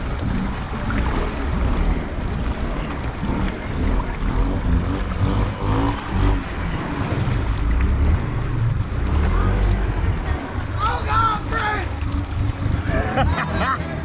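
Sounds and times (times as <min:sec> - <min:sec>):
atv engine running: 0:00.0 - 0:14.0
water churning: 0:00.0 - 0:14.0.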